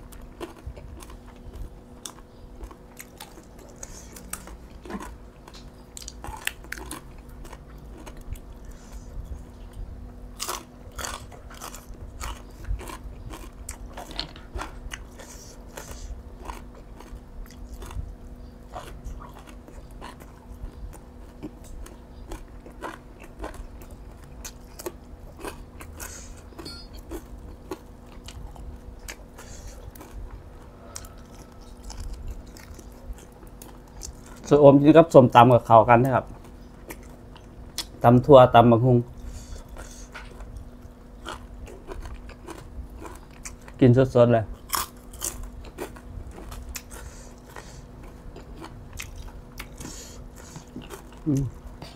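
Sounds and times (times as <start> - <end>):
crunching and chewing: 0.0 - 51.9
faint steady hum: 0.0 - 51.9.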